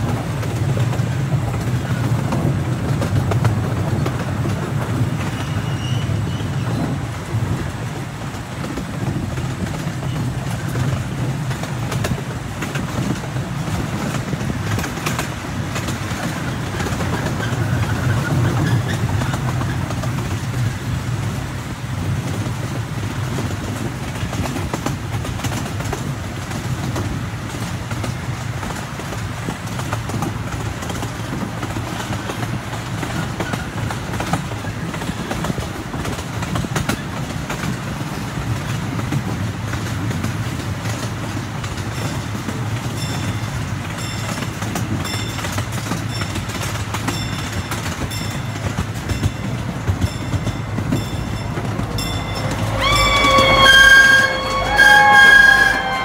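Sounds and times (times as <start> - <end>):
small train rumbling on track: 0.0 - 56.0
wheels clicking on rails: 0.0 - 56.0.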